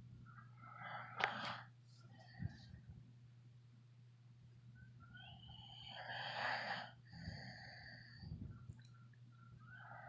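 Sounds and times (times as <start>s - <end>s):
faint steady low hum: 0.0s - 10.0s.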